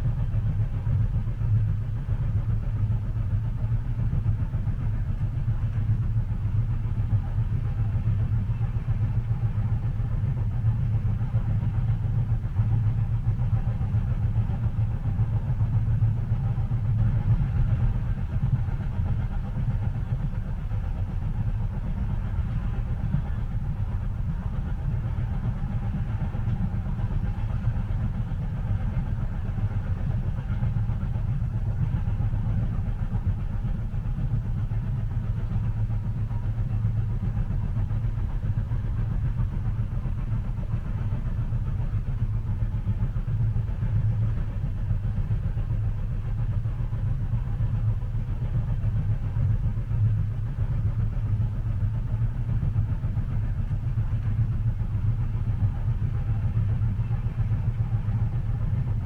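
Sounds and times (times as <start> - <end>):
train rumble inside cabin: 0.0 - 59.0.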